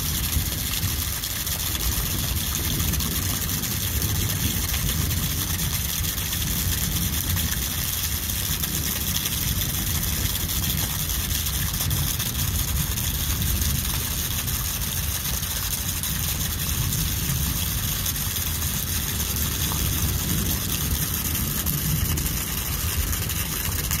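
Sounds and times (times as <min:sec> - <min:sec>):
heavy rain on standing water: 0:00.0 - 0:24.0.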